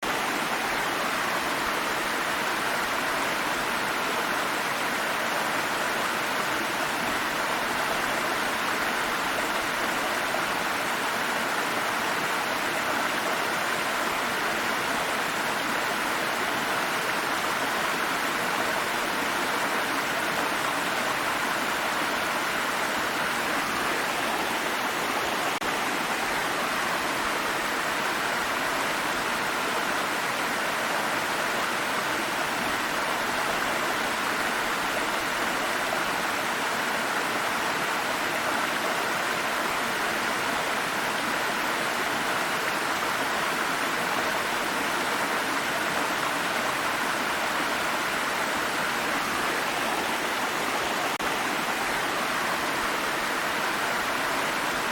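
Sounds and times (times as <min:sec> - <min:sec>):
water stream flowing: 0:00.0 - 0:54.9.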